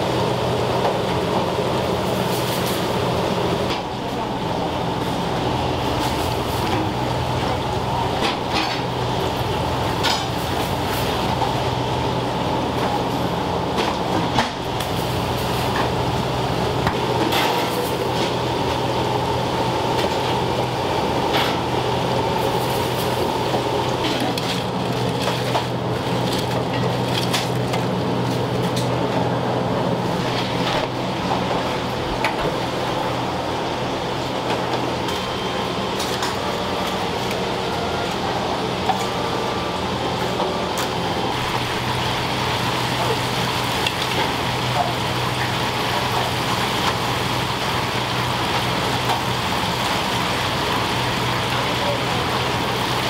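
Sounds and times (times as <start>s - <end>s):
kitchen ventilation hum: 0.0s - 53.0s.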